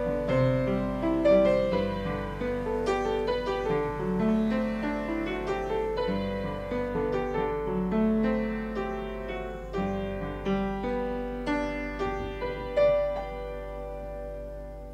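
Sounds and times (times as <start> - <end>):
piano melody: 0.0 - 14.9.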